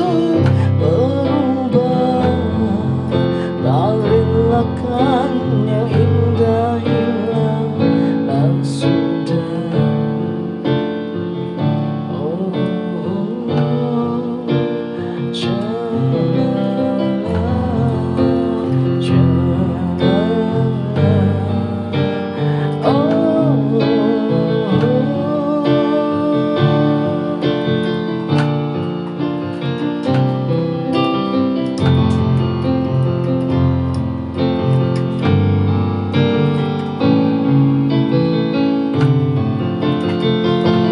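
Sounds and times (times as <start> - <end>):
electronic keyboard ballad: 0.0 - 40.9.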